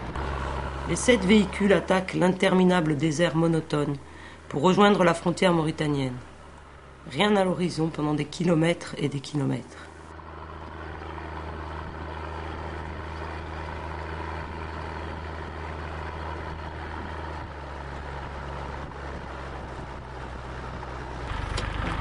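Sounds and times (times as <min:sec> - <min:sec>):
car engine hum: 0:00.0 - 0:22.0
road and wind noise: 0:00.0 - 0:22.0.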